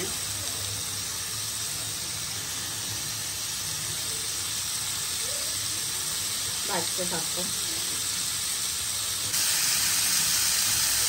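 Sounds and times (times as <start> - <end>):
skewers sizzling in grill pan: 0.0 - 11.0.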